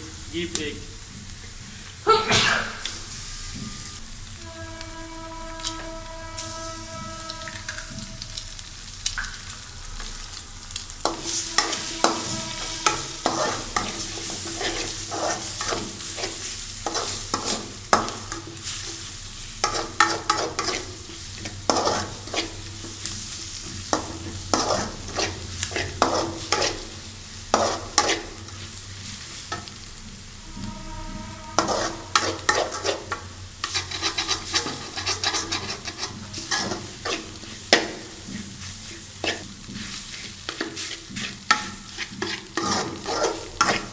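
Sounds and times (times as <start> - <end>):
noodles and egg sizzling in pan: 0.0 - 43.9
spoon scraping a pan: 3.4 - 9.0, 10.8 - 29.8, 30.4 - 43.9.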